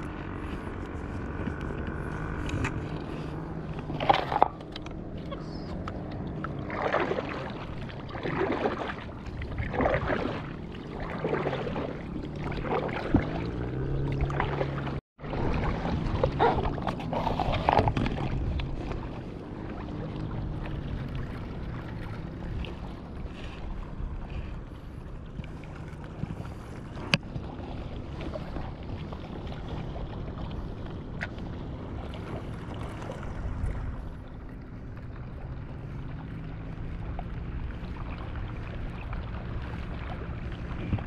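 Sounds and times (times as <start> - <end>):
water sloshing: 0.0 - 41.0
wind on microphone: 0.0 - 41.0.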